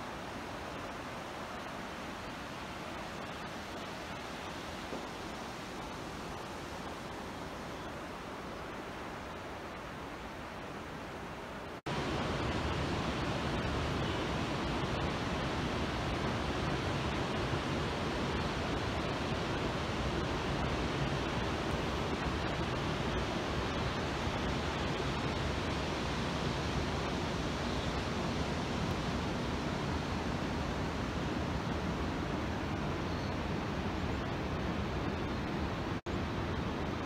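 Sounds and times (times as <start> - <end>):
mountain stream rushing: 0.0 - 37.0.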